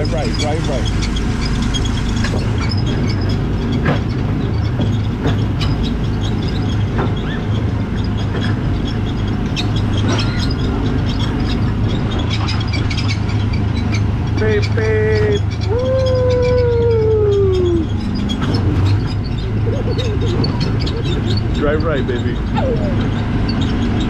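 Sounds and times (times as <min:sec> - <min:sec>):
small gasoline engine running: 0:00.0 - 0:16.3, 0:17.6 - 0:24.0
car rattling on track: 0:00.0 - 0:24.0.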